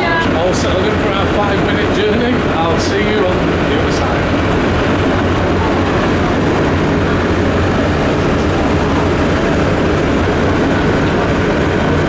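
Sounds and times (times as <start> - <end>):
ferry engine droning: 0.0 - 12.0
rushing wash of noise: 0.0 - 12.0.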